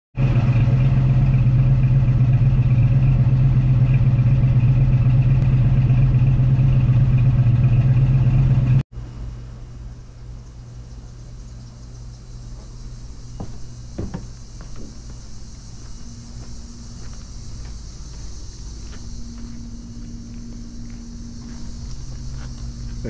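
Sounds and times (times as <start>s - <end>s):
car engine idling: 0.2s - 8.8s, 11.1s - 23.0s.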